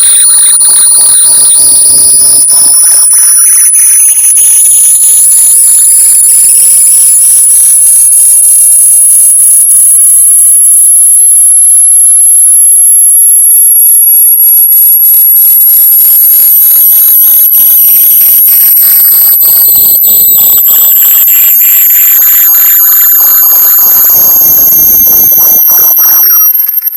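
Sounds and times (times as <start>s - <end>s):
high-pitched electronic alarm tone: 0.0s - 26.9s.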